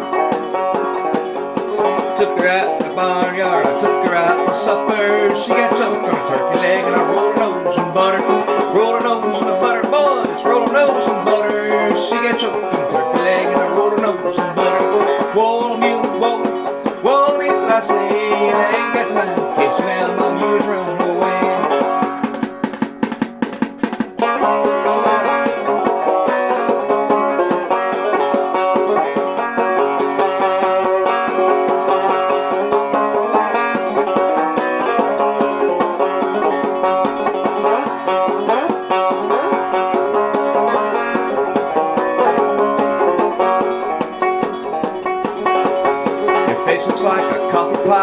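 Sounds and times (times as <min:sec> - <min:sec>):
banjo picking: 0:00.0 - 0:48.0.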